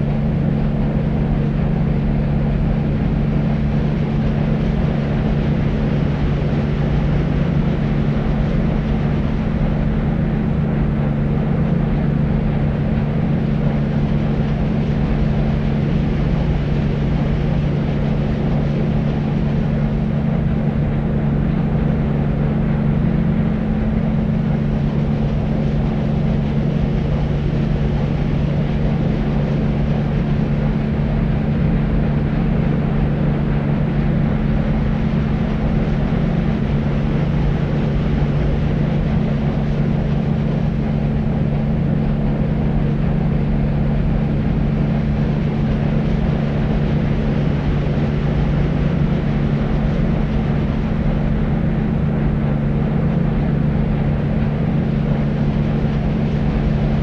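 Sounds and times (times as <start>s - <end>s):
deep rumbling white noise: 0.0s - 57.0s
steady low hum: 0.0s - 57.0s.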